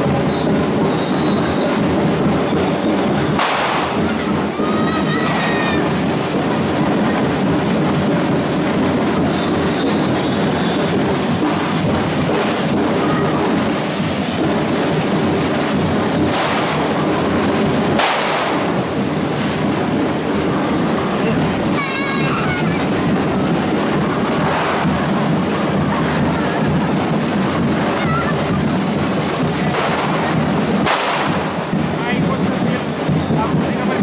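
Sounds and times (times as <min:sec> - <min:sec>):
sharp firework bang: 0:00.0 - 0:04.5, 0:05.2 - 0:33.6
firework fountains hissing and crackling: 0:00.0 - 0:34.0
percussion: 0:00.0 - 0:34.0.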